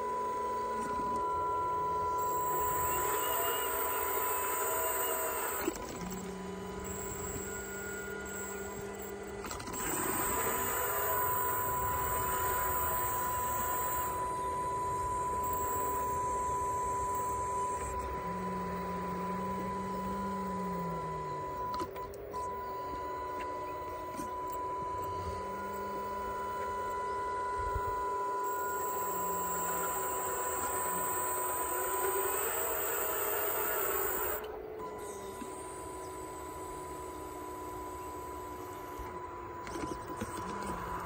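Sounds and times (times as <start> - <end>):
hydraulic pump whine: 0.0 - 41.0.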